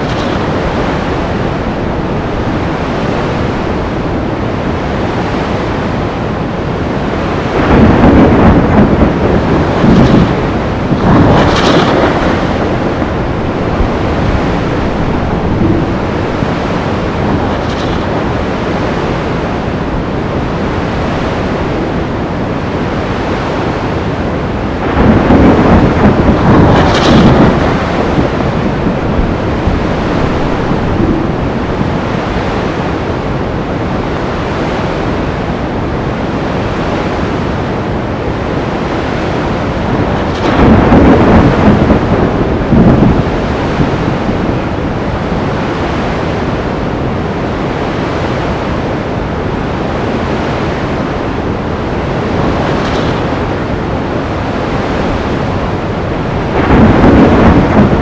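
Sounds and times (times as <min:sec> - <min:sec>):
rumbling wave crashes: 0:00.0 - 0:34.2, 0:38.6 - 0:47.4, 0:49.9 - 0:58.0
surf rushing: 0:00.0 - 0:58.0
wind: 0:00.0 - 0:58.0.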